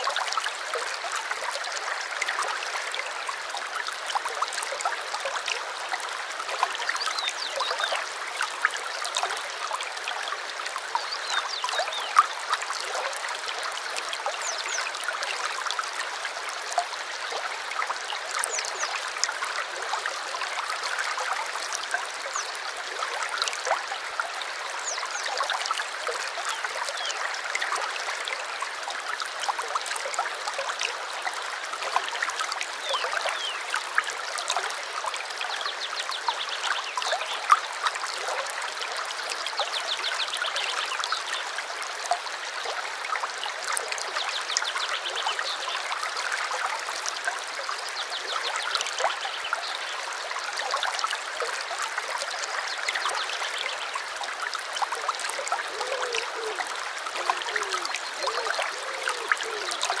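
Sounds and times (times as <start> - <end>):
stream babbling: 0.0 - 60.0.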